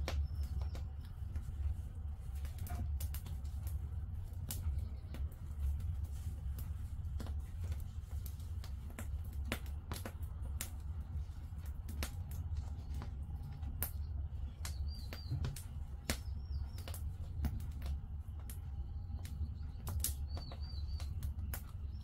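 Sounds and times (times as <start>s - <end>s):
fire low rumble: 0.0s - 22.0s
firewood crackling and popping: 0.0s - 22.0s.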